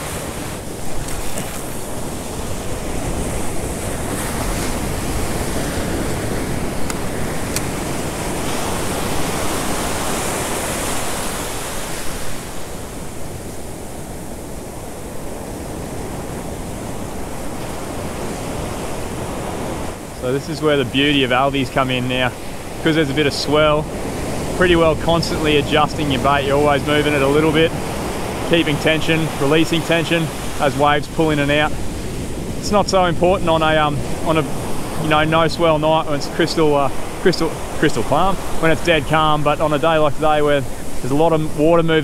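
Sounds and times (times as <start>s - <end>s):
ocean surf breaking: 0.0s - 42.0s.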